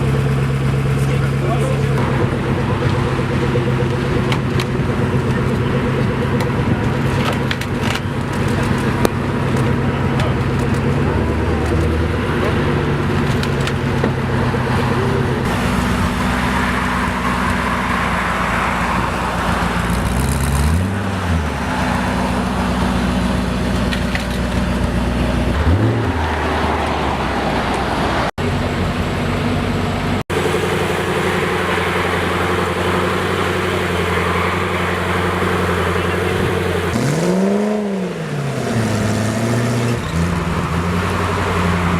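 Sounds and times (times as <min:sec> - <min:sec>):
car engine idling: 0:00.0 - 0:41.9
engine throttle blips: 0:00.0 - 0:41.9.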